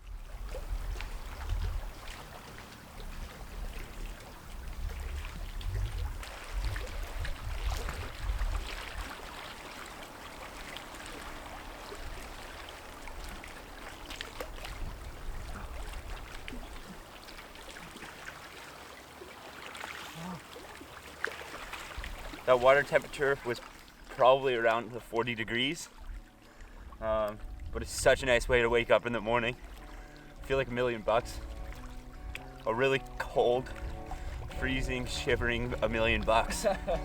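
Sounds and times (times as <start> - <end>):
lake water splashing: 0.0 - 37.0.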